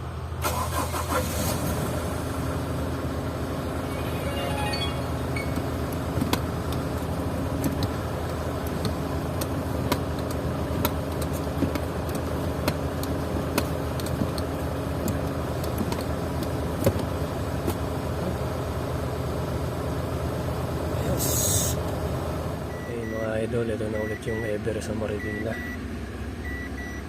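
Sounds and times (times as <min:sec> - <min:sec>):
vehicle engine idling: 0:00.0 - 0:04.0, 0:05.2 - 0:26.6.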